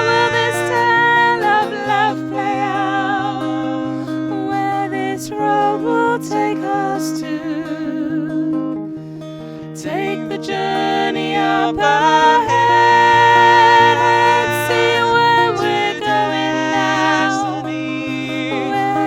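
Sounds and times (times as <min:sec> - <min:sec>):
person singing: 0:00.0 - 0:09.0, 0:09.7 - 0:19.0
acoustic guitar: 0:00.0 - 0:19.0.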